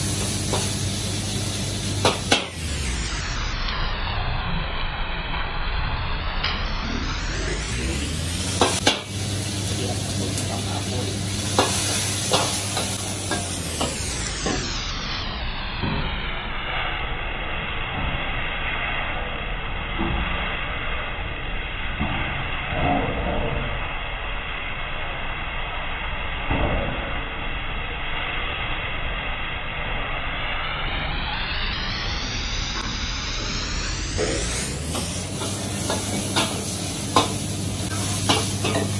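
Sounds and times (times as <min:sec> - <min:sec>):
stir-fry sizzling in a wok: 0:00.0 - 0:38.9.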